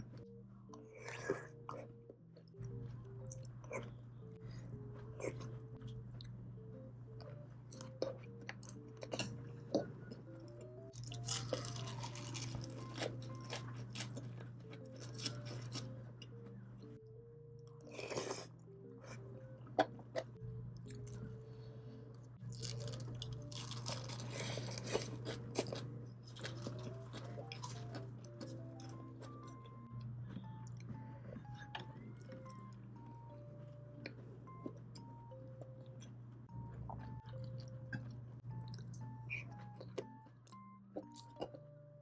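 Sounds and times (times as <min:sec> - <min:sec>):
person chewing and crunching food: 0:00.0 - 0:06.4, 0:07.1 - 0:16.9, 0:17.6 - 0:41.9
background music melody: 0:00.0 - 0:42.0.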